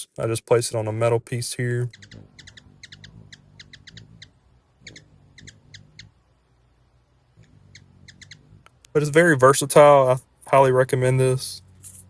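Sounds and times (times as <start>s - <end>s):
hummingbirds chipping: 0.7s - 12.0s.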